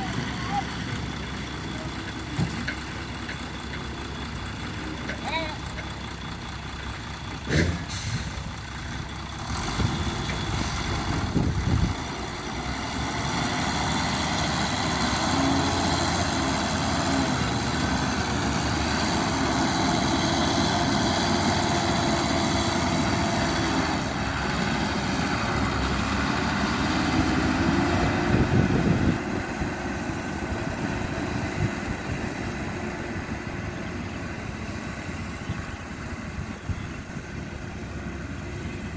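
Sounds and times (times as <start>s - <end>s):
diesel lorry engine running: 0.0s - 38.9s.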